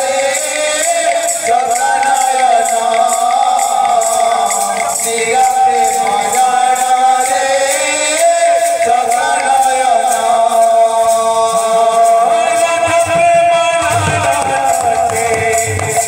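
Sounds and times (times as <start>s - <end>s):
jingles beating: 0.0s - 16.0s
men singing devotional song: 0.0s - 16.0s.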